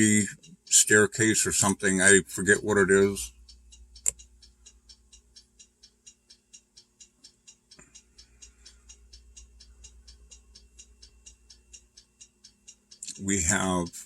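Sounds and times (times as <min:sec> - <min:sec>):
faint steady ticking: 0:00.0 - 0:14.0.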